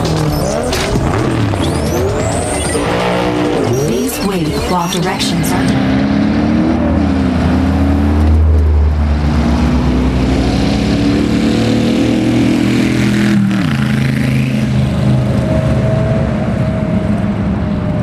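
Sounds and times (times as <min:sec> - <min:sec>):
drag racing car engine accelerating: 0:00.0 - 0:18.0.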